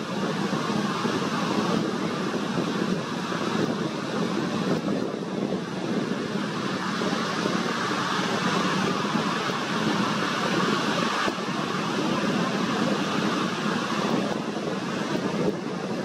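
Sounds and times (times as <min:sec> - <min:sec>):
surf washing over sand: 0:00.0 - 0:16.0
wind on microphone: 0:00.0 - 0:16.0.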